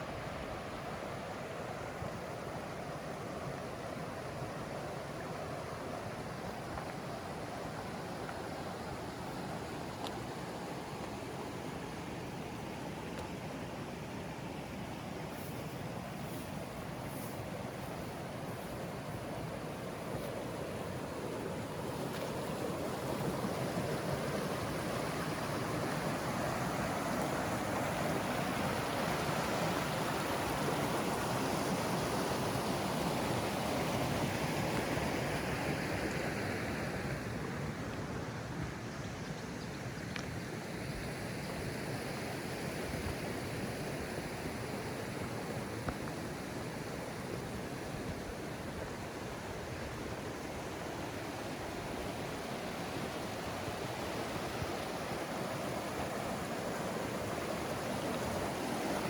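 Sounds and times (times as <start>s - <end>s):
mountain stream rushing: 0.0s - 39.1s, 39.9s - 59.0s.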